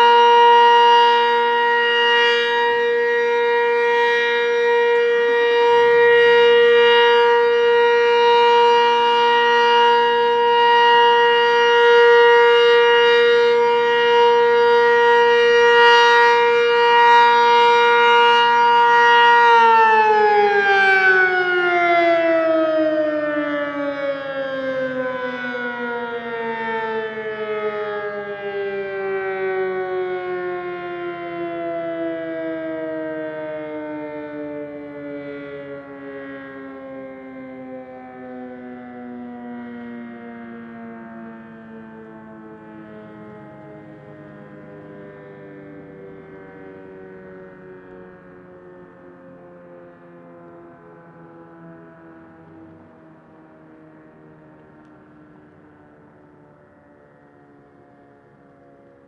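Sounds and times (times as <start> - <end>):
two-tone siren winding down: 0.0 - 59.0.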